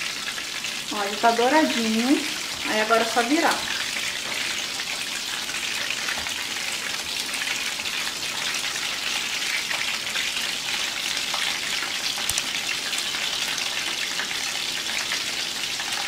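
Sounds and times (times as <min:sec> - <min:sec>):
fish deep-frying in oil: 0:00.0 - 0:16.0.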